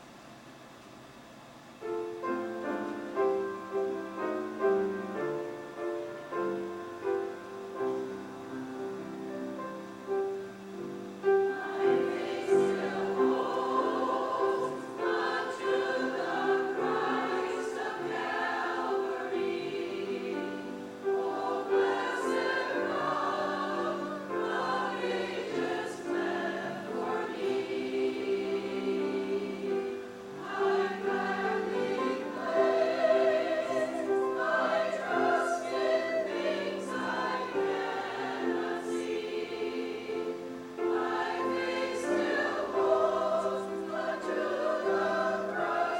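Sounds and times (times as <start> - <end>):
choir singing a hymn: 2.2 - 45.9.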